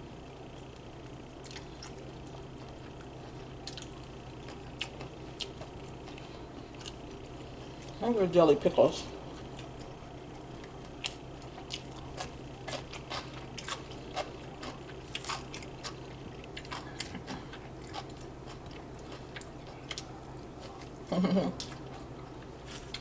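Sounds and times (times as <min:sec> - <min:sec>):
low steady hum: 0:00.0 - 0:23.0
person chewing and smacking food: 0:00.5 - 0:08.0, 0:09.2 - 0:23.0.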